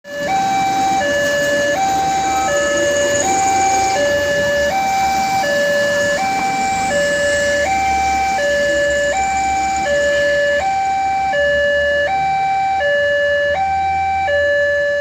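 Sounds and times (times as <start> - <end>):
level crossing two-tone alarm: 0.1 - 15.0.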